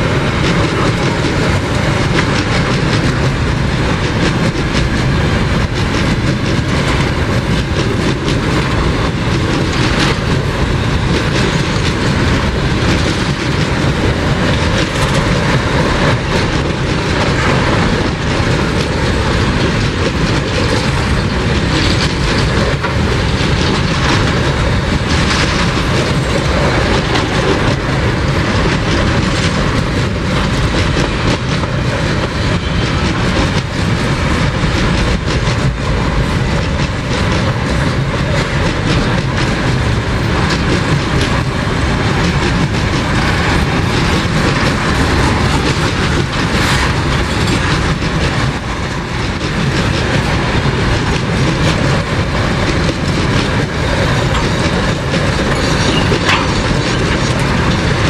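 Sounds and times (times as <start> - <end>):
steel wheels rolling on rails: 0.0 - 58.0
wheels clickety-clack over rail joints: 0.0 - 58.0.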